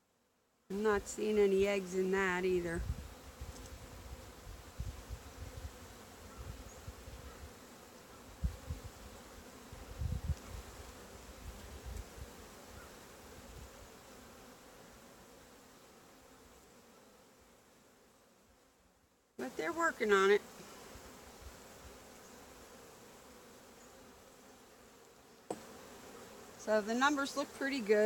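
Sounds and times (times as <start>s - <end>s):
bees buzzing: 0.7s - 18.2s, 19.4s - 28.0s.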